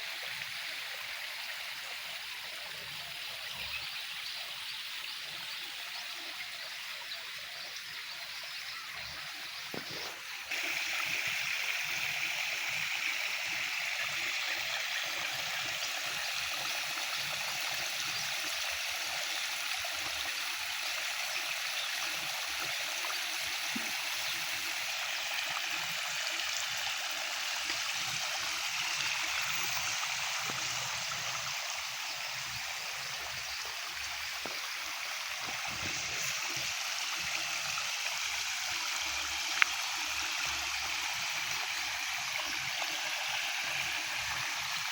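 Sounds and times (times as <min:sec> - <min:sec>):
water running steadily: 0:00.0 - 0:44.9.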